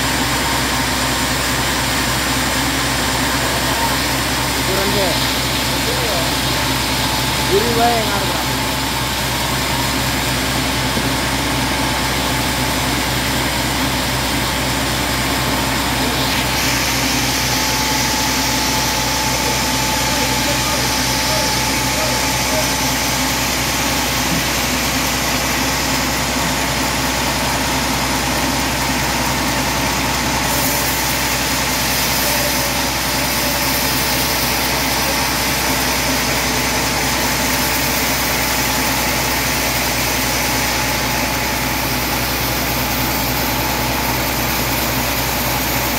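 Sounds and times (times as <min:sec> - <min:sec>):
band sawmill running: 0:00.0 - 0:45.9.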